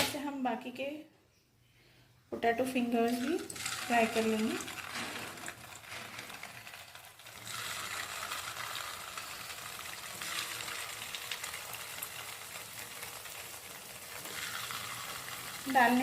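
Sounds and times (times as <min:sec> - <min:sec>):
hot oil sizzling and crackling: 0:03.0 - 0:16.0.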